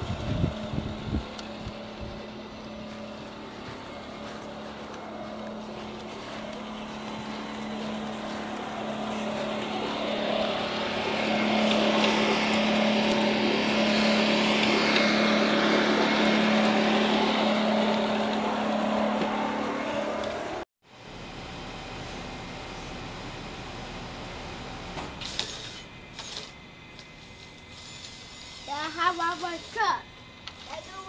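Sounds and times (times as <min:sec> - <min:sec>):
electric motor hum with whine: 0:00.0 - 0:31.0.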